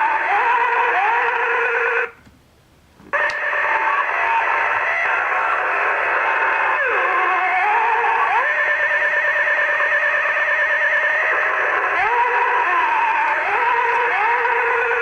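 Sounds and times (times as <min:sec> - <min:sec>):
spooky electronic sound effects: 0:00.0 - 0:02.1, 0:03.2 - 0:15.0.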